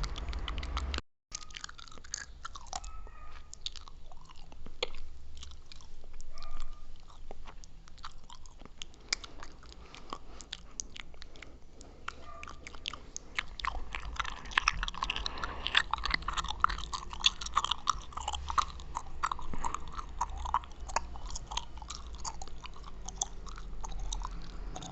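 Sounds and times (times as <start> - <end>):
gum chewing: 0.0 - 24.9
wet mouth clicks and smacks: 0.0 - 24.9.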